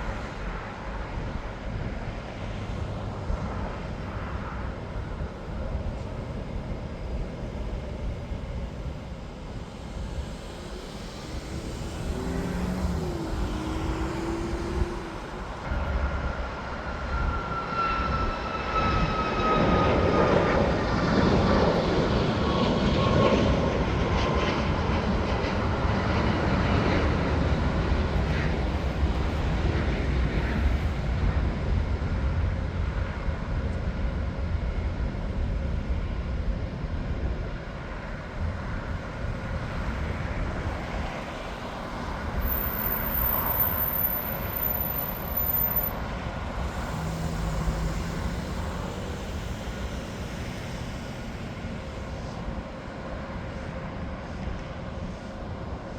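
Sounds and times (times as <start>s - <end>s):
jet airliner engines: 0.0s - 55.9s.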